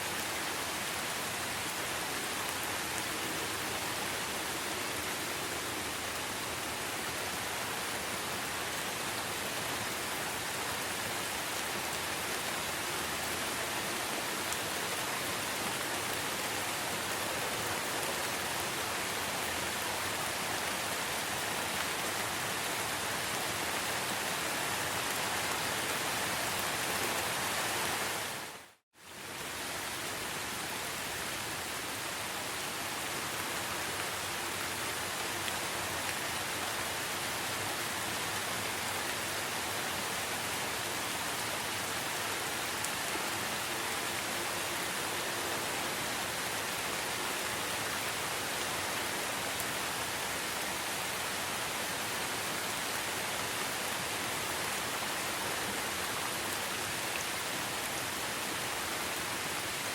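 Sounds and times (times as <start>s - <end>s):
dense rain falling: 0.0s - 59.9s.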